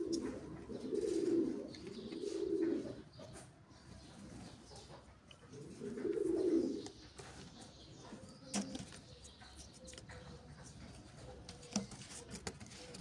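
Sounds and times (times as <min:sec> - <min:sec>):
dove cooing: 0:00.0 - 0:03.2, 0:04.4 - 0:13.0.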